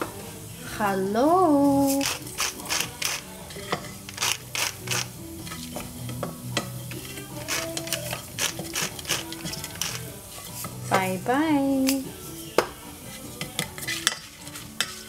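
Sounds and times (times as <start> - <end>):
seeds sizzling in oil: 0.0 - 15.0
spatula scraping saucepan: 1.6 - 11.2, 11.8 - 15.0.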